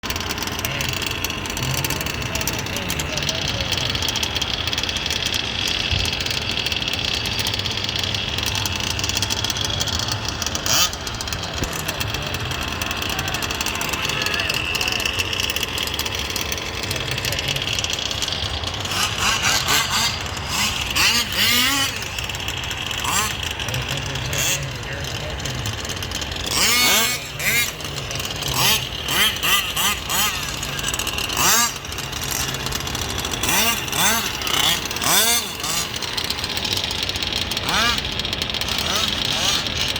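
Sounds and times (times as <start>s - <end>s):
loud engine burst: 0.0s - 39.9s
small two-stroke engines buzzing: 0.0s - 39.9s.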